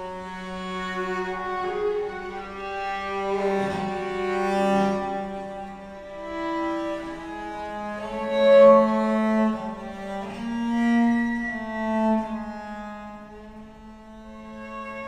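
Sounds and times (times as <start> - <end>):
bowed strings sustained notes: 0.0 - 15.0.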